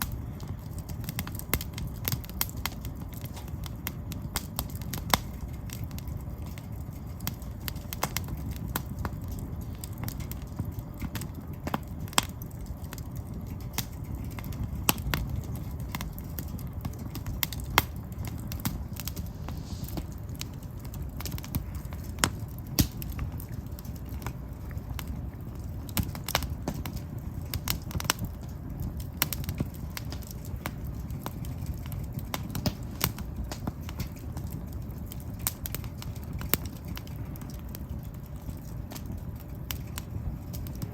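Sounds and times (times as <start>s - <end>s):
logs crackling and popping: 0.0s - 40.9s
low rumble of fire: 0.0s - 40.9s.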